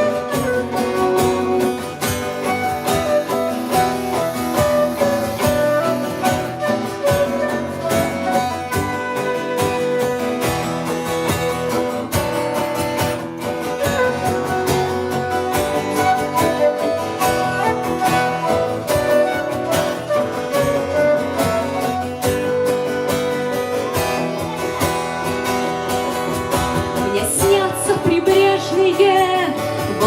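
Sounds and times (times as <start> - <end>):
live band playing: 0.0 - 30.0
strummed guitar: 0.0 - 30.0.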